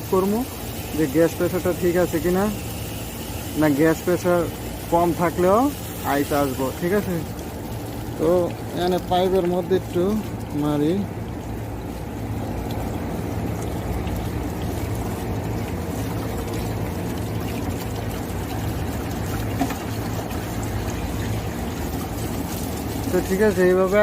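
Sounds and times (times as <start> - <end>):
air conditioner humming: 0.0 - 24.0
water pouring: 0.0 - 24.0.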